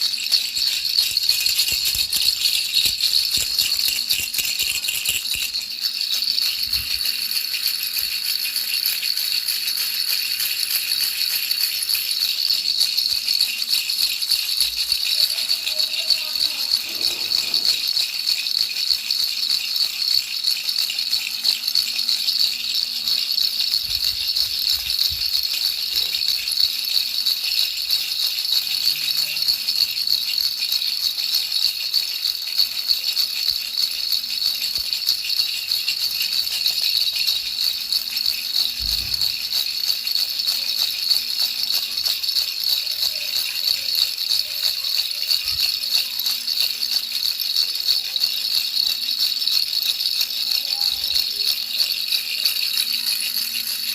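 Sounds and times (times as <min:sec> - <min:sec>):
baby rattle shaken: 0:00.0 - 0:53.9.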